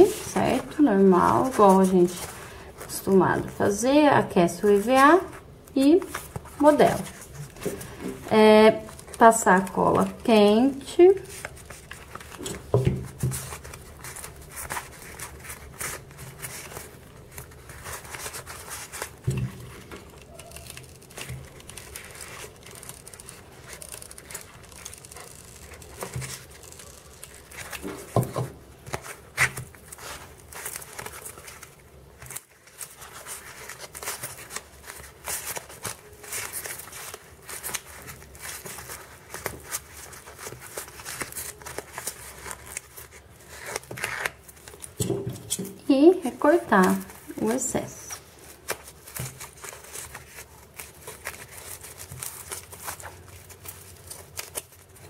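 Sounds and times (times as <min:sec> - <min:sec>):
foam sheet crinkling: 0:00.0 - 0:55.0.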